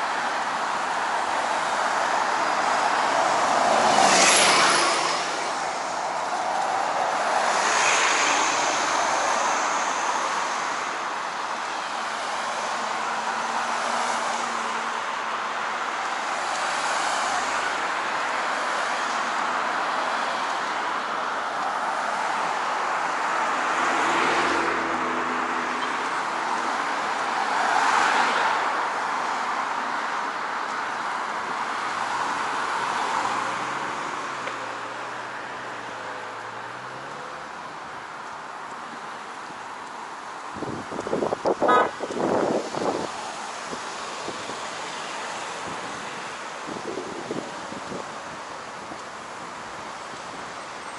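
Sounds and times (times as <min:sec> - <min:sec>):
cars passing close by: 0:00.0 - 0:50.9.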